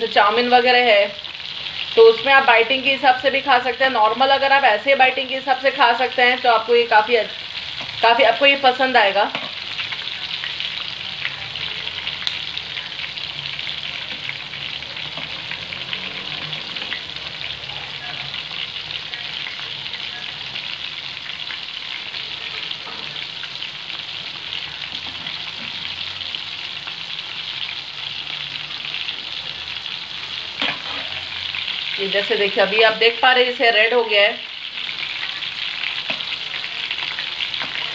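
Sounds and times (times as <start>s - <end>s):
prawns sizzling in oil: 0.0s - 37.9s.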